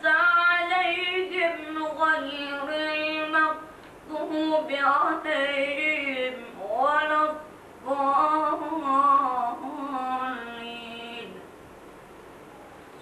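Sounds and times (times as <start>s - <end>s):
boy reciting melodically: 0.0s - 11.5s.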